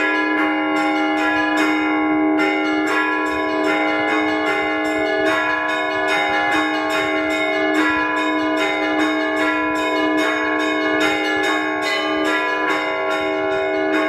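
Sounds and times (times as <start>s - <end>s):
church bells pealing: 0.0s - 14.0s.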